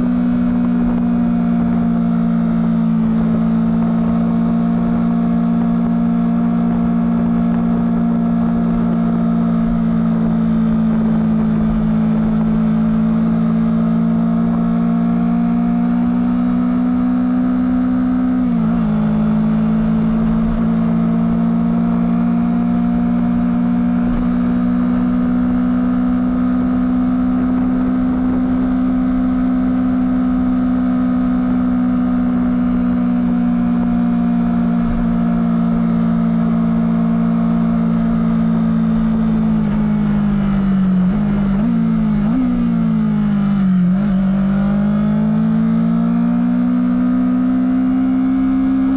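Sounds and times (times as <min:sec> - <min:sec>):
motorcycle engine high revs: 0:00.8 - 0:48.9.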